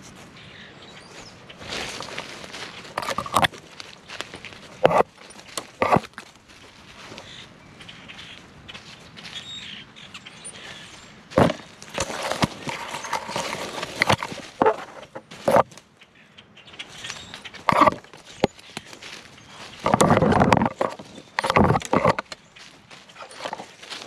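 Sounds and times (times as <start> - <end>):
twigs and grass rustling: 0.0 - 24.0.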